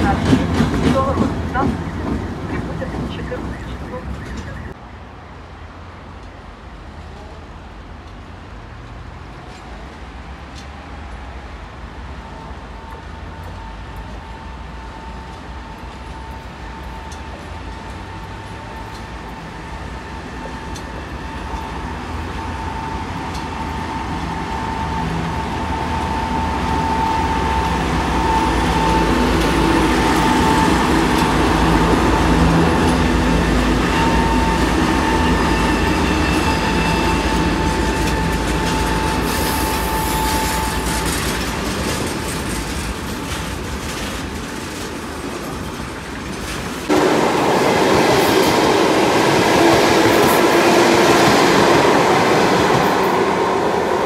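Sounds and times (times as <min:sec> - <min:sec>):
electric train rushing past: 0:00.0 - 0:04.8, 0:07.7 - 0:54.0
diesel locomotive engine whine: 0:00.0 - 0:54.0.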